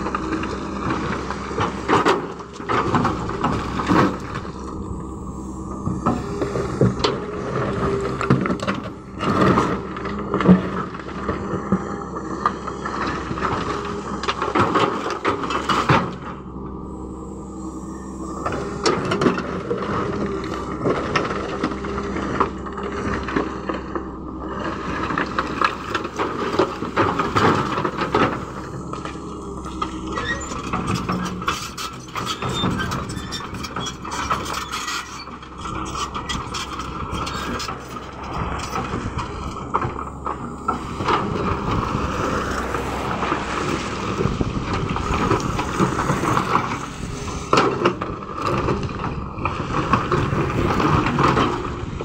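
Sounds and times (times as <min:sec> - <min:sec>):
excavator engine running: 0:00.0 - 0:52.0.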